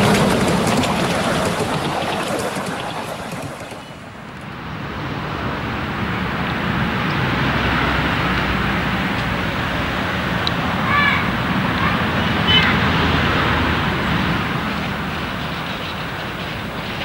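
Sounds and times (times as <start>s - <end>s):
train wheels rattling on rails: 0.0s - 4.4s, 7.7s - 17.0s
steady rushing noise with hum: 0.0s - 17.0s.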